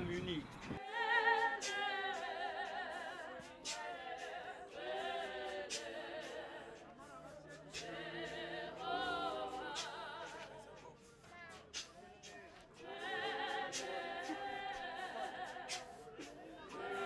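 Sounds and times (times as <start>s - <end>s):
choir singing in close harmony: 0.8s - 17.0s.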